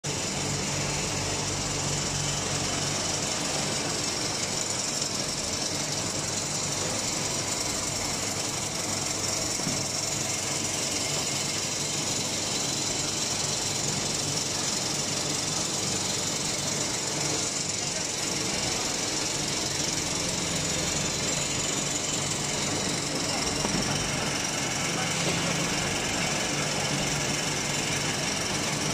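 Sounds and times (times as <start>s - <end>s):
machinery hum: 0.1s - 28.9s.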